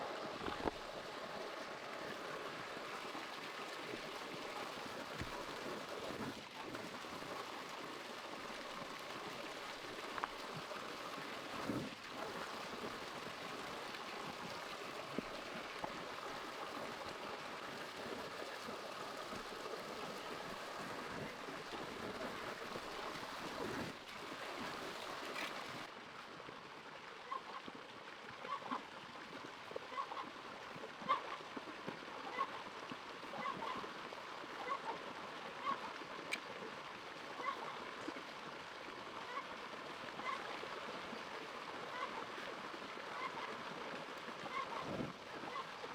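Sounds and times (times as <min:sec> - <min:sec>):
running water: 0:00.0 - 0:45.9.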